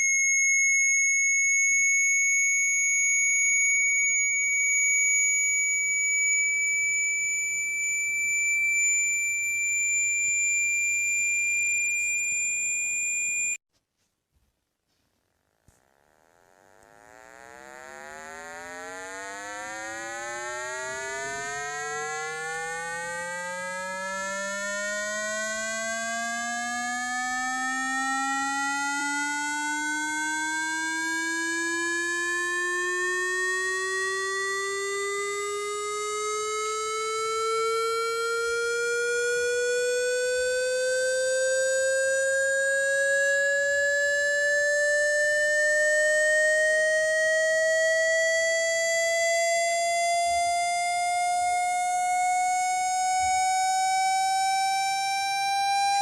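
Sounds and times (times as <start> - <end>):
buzzy tone rising in pitch: 0.9 - 13.6, 16.0 - 56.0.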